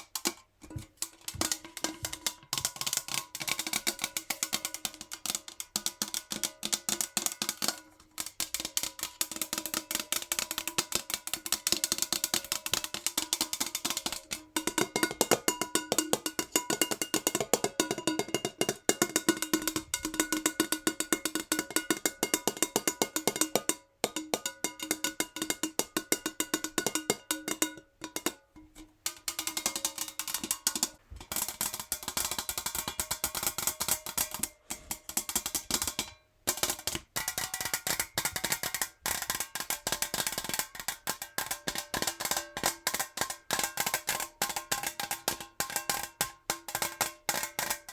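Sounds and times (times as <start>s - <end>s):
fingernails tapping on metal jar: 0.0s - 47.9s.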